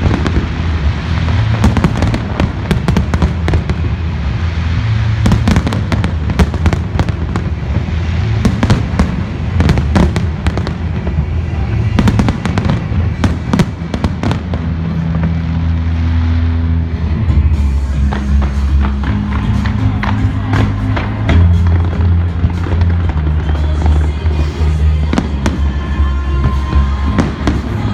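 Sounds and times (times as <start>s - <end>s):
fireworks bangs and crackles: 0.0s - 27.9s
steady music: 0.0s - 27.9s.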